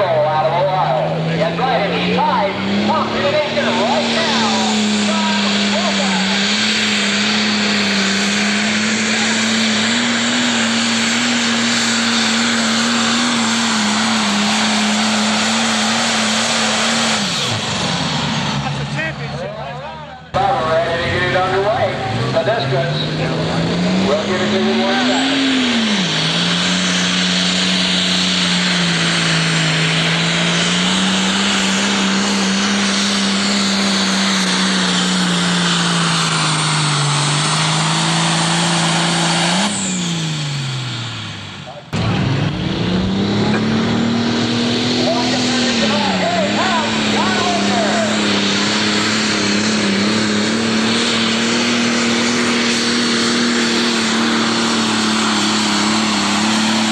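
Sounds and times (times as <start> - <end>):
diesel tractor engine at full load: 0.0 - 56.9.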